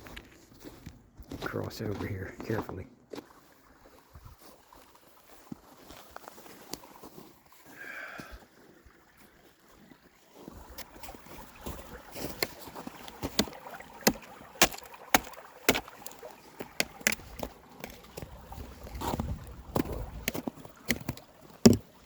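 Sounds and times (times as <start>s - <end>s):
footsteps crunching in woods: 0.0s - 7.7s, 10.4s - 21.9s.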